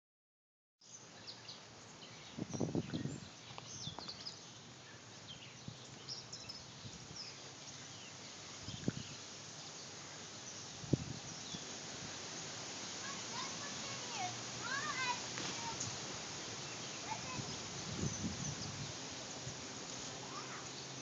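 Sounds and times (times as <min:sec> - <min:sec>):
steady outdoor hiss: 0:00.8 - 0:21.0
birds chirping: 0:00.9 - 0:21.0.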